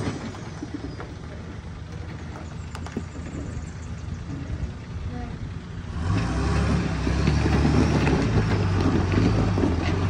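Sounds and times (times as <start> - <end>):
truck engine low rumble: 0.0 - 10.0.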